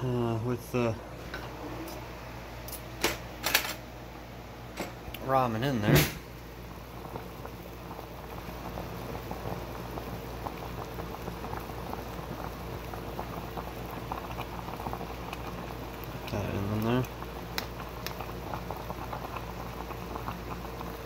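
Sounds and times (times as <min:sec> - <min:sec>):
gas burner hissing: 0:00.0 - 0:21.0
water boiling and bubbling: 0:00.0 - 0:21.0.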